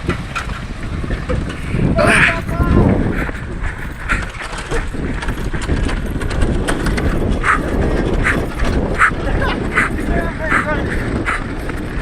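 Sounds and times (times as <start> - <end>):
lawn mower rattling on road: 0.0 - 12.0.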